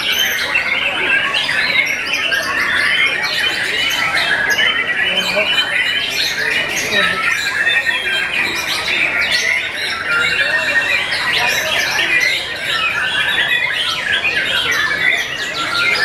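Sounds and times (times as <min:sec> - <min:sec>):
birds singing in chorus: 0:00.0 - 0:16.0.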